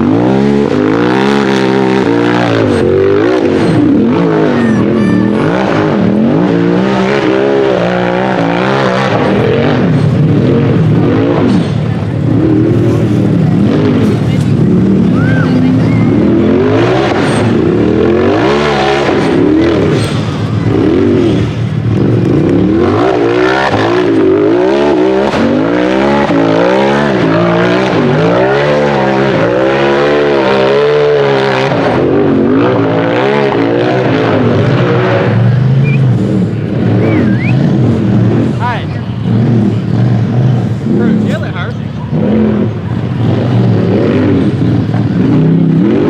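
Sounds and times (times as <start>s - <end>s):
race engine revving: 0.0s - 46.0s.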